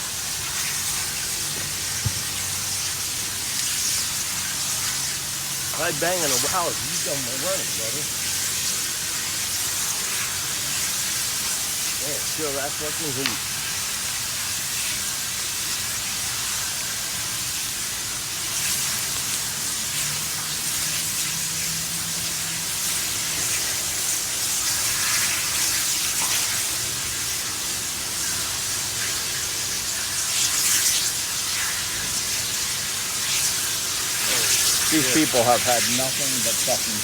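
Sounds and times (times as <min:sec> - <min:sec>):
fire hissing and crackling: 0:00.0 - 0:37.0.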